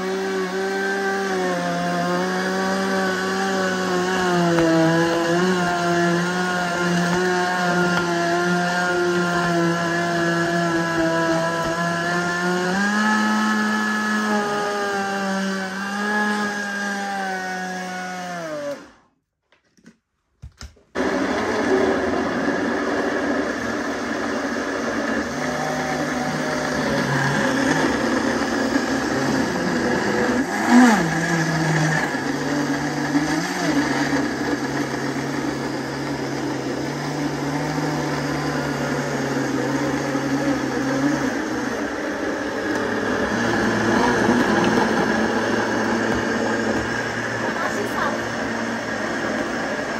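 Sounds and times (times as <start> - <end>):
blender motor grinding fruit: 0.0 - 19.1, 21.0 - 49.9.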